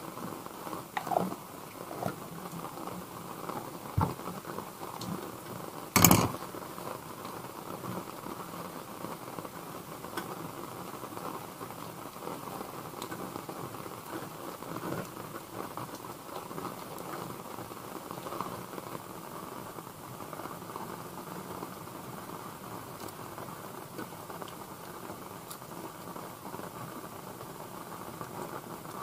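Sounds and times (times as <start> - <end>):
rain on vehicle roof: 0.0 - 29.0.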